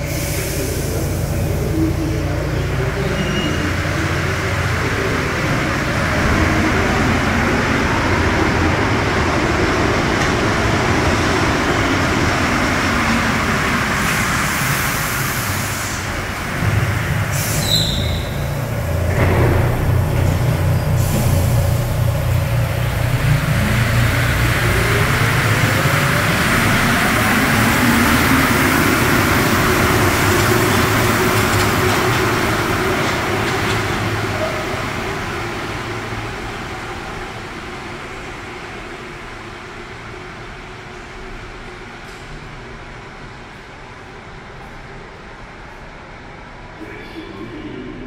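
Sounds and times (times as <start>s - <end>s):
train accelerating: 0.0s - 48.0s.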